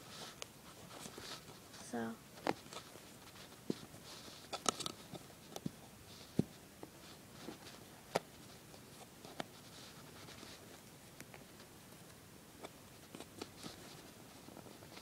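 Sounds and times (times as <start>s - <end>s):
faint rustling of loops: 0.0s - 15.0s.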